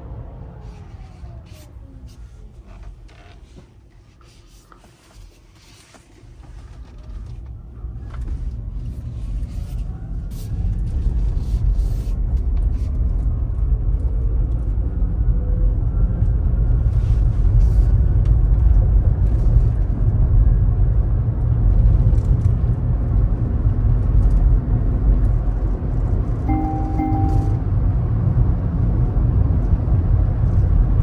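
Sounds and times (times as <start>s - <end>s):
road and tyre rumble: 0.0s - 26.5s, 27.5s - 31.0s.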